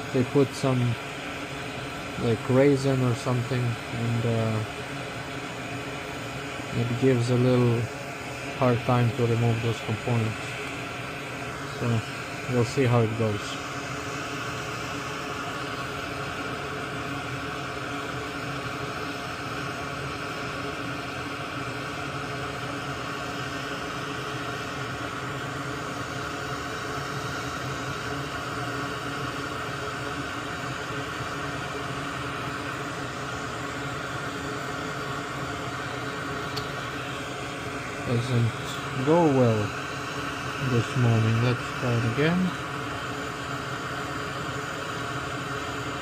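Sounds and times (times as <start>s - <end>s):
electric fan whooshing hiss: 0.0s - 46.0s
faint hum: 0.0s - 46.0s.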